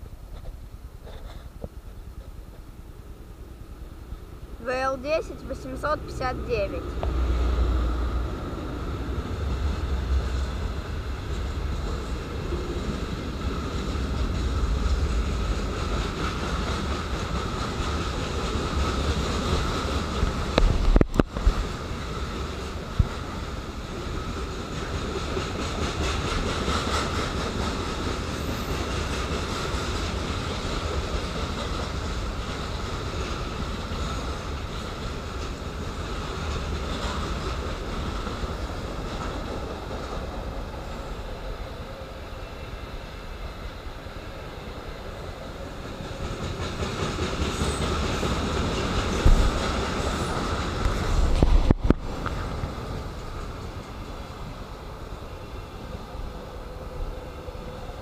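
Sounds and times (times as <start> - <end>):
train wagons rumbling on rails: 0.0 - 58.0.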